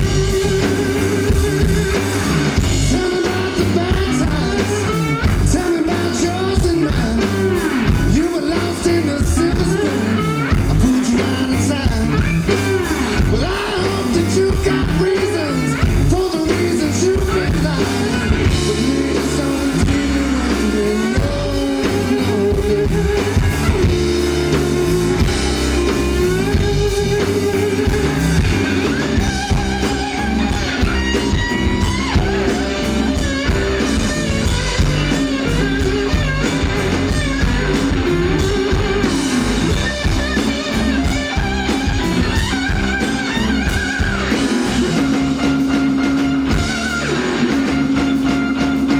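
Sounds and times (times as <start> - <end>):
man singing: 0.0 - 40.0
drum kit: 0.0 - 48.9
electric guitars: 0.0 - 48.9.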